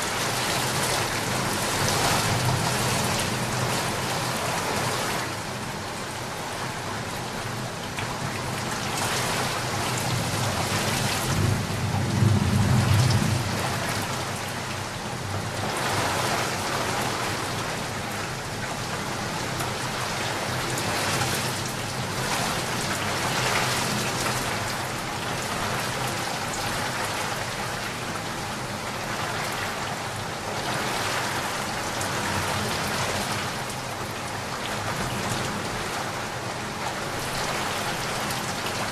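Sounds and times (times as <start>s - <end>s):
heavy rain on water: 0.0s - 38.9s.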